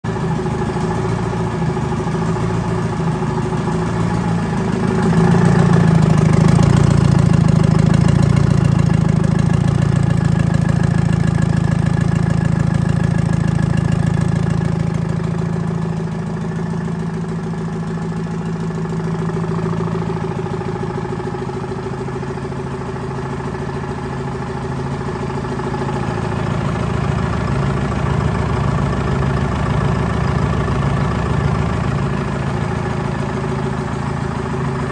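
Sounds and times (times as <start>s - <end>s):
two-stroke diesel engine running: 0.0s - 34.9s.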